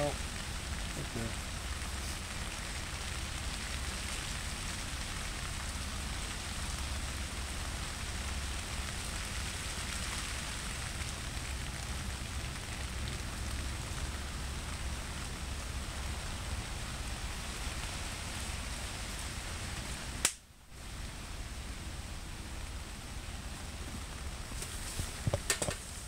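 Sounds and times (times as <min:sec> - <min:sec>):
steady hissing noise: 0:00.0 - 0:26.0.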